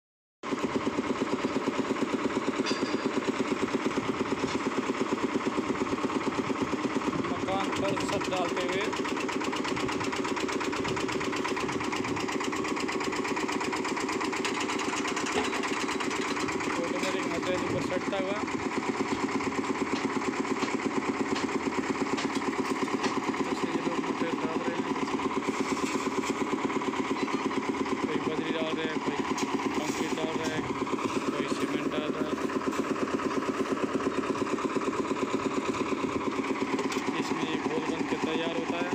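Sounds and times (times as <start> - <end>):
concrete mixer engine chugging: 0.4 - 38.9.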